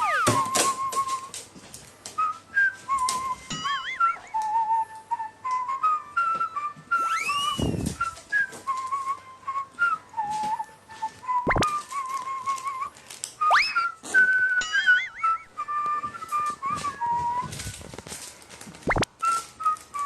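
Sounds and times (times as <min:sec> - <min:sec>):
whistled melody music: 0:00.0 - 0:18.2, 0:18.8 - 0:20.0.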